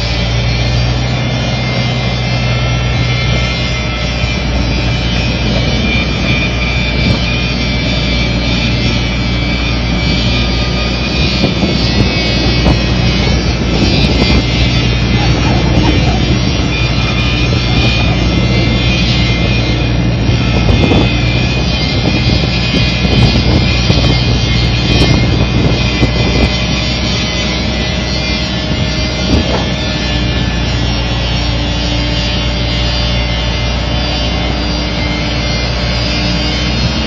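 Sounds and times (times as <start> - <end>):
excavator diesel engine running: 0.0 - 37.0
thin high whine: 0.0 - 37.0.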